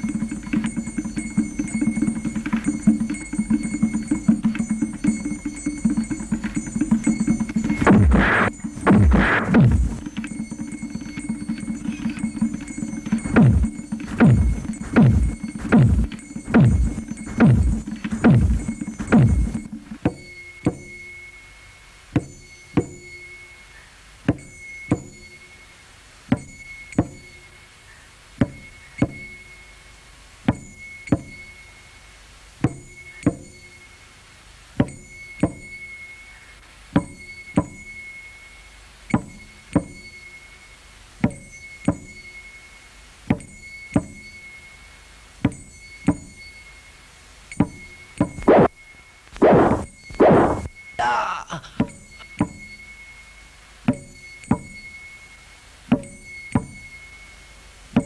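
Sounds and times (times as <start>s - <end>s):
faint steady high tone: 0.0s - 58.0s.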